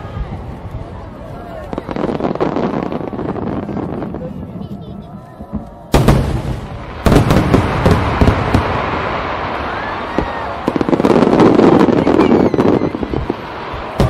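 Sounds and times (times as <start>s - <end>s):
fireworks bangs: 0.0s - 14.0s
fireworks crackles and pops: 0.0s - 14.0s.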